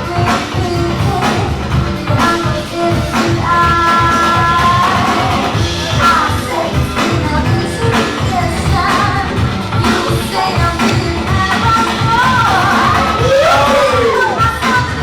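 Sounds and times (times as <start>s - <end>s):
dance music with steady beat: 0.0s - 15.0s
person singing: 0.0s - 15.0s.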